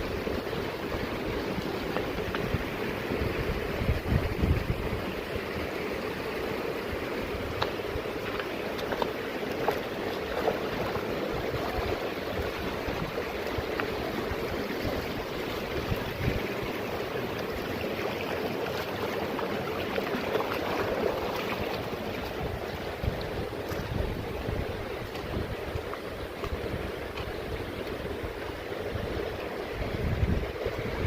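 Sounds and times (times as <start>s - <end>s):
flowing water rushing: 0.0s - 31.0s.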